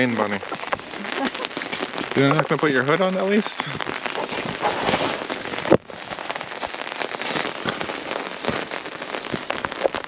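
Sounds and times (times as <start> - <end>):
raindrops ticking: 0.0 - 10.0.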